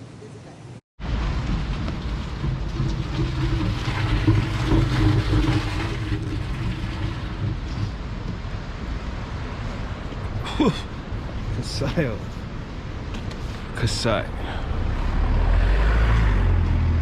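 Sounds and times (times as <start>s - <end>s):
vehicle engine rumbling: 1.0s - 17.0s.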